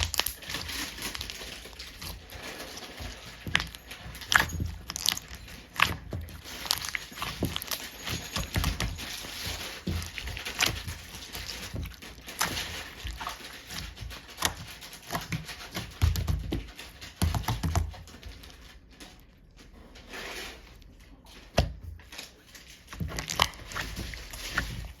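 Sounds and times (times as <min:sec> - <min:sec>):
slime squishing: 0:00.0 - 0:19.6, 0:20.2 - 0:25.0.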